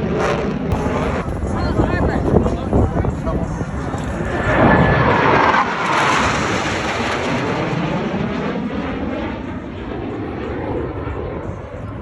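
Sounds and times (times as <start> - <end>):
jet roar with falling whine: 0.0 - 12.0.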